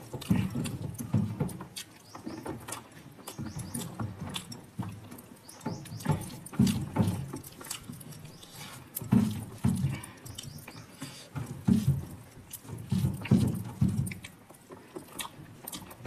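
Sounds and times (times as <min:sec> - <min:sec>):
person chewing: 0:00.0 - 0:16.0.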